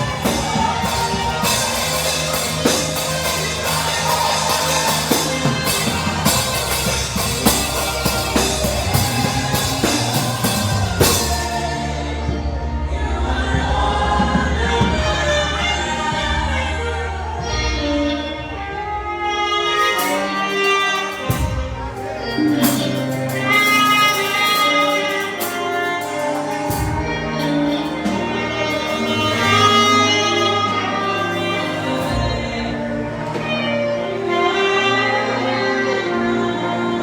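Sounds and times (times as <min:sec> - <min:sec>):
saxophone slow melody: 0:00.0 - 0:13.5, 0:15.0 - 0:37.0
band with bass and percussion: 0:00.0 - 0:34.0.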